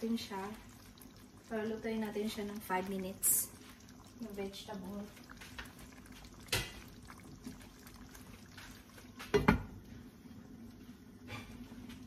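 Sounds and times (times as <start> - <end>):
stew bubbling: 0.0 - 12.0.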